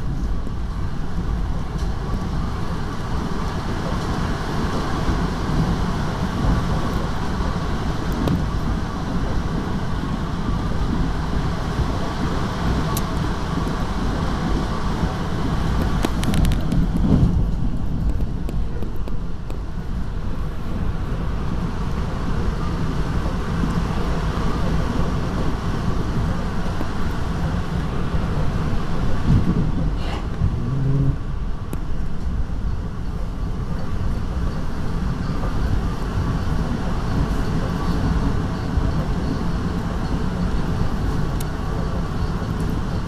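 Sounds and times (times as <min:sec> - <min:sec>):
train coach rumbling on rails: 0:00.0 - 0:43.0.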